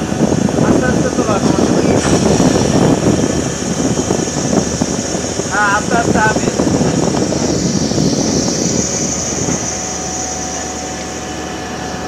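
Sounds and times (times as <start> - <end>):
deck machinery and engine drone: 0.0 - 12.0
faint steady whine: 0.0 - 12.0.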